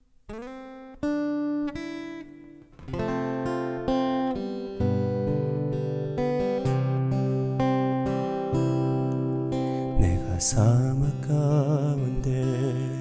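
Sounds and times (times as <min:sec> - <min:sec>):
acoustic guitar picking and strumming: 0:00.3 - 0:13.0.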